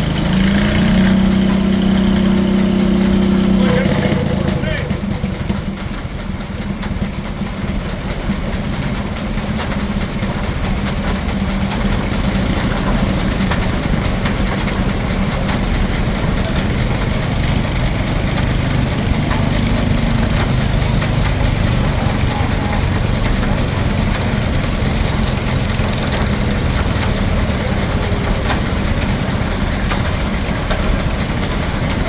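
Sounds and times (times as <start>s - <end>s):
sawmill running: 0.0s - 32.0s.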